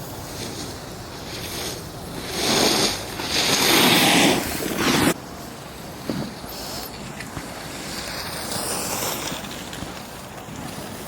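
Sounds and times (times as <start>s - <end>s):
skis scraping on snow: 0.0s - 11.0s.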